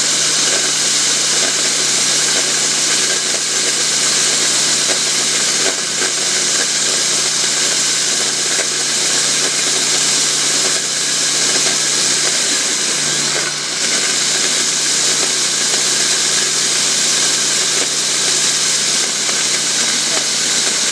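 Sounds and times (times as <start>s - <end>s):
core drill boring concrete: 0.0s - 20.9s.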